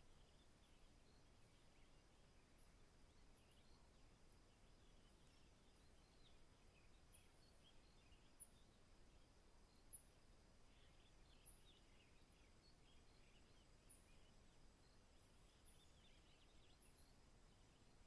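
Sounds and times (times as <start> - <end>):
faint distant hiss: 0.0 - 18.0
soft bird chirps: 0.0 - 18.0.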